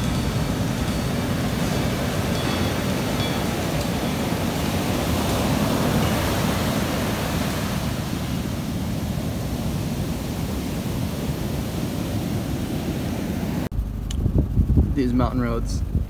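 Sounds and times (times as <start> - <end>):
ocean surf breaking on beach: 0.0 - 13.7.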